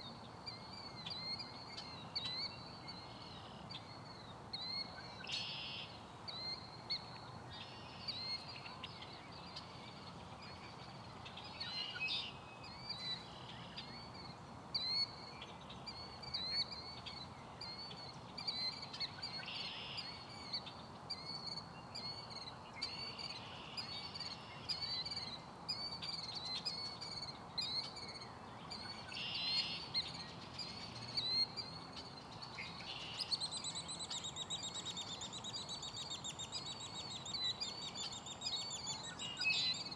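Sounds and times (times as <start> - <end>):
buzzy bird song: 0.0 - 39.9.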